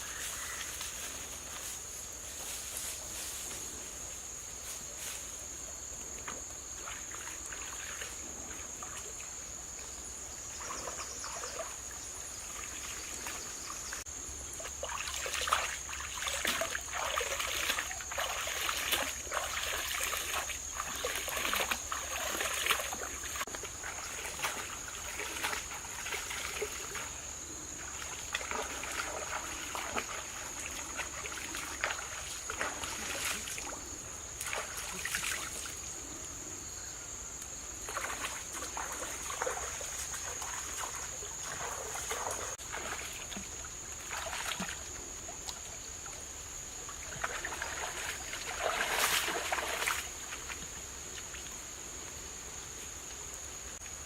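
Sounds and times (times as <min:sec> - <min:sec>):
water trickling and splashing: 0:06.1 - 0:35.9, 0:37.8 - 0:54.0.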